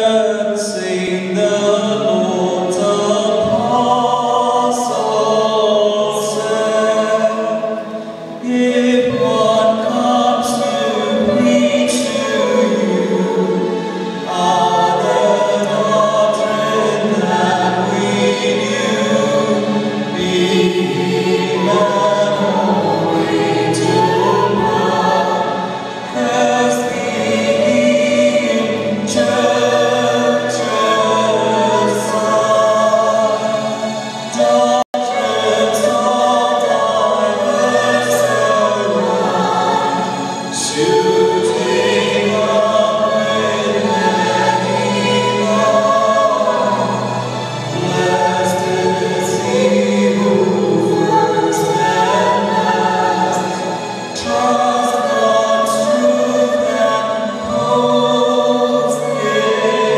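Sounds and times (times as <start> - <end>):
church choir singing: 0.0 - 59.9.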